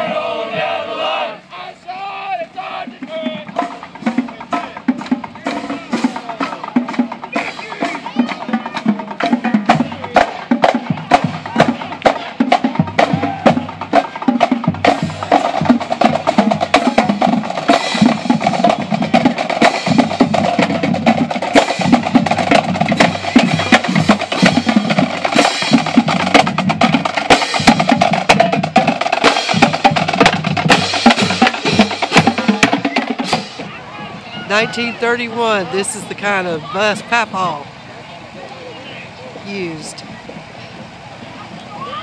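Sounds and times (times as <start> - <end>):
marching band drums and cymbals: 0.0 - 38.2, 38.8 - 42.0.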